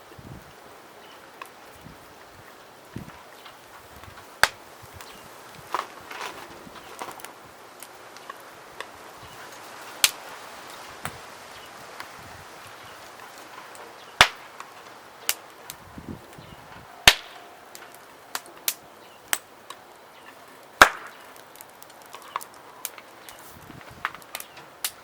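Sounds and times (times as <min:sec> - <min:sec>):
faint steady hiss: 0:00.0 - 0:25.0
wood fire crackling: 0:00.0 - 0:25.0.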